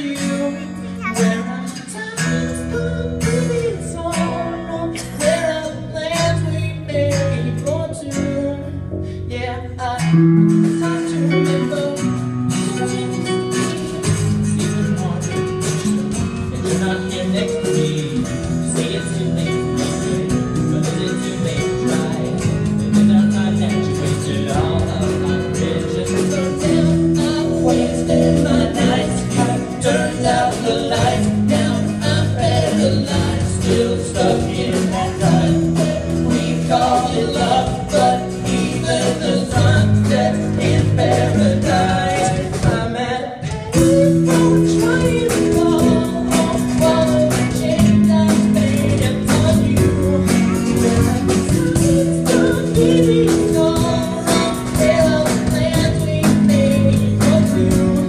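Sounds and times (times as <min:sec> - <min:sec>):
guitar strumming chords: 0:00.0 - 0:09.2, 0:10.0 - 0:58.0
man singing into microphone: 0:00.0 - 0:15.6, 0:16.4 - 0:58.0.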